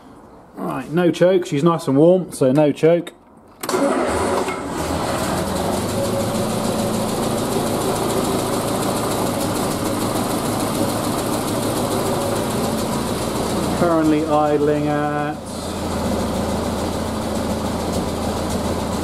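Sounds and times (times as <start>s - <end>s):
car engine starting and idling: 3.6s - 19.0s.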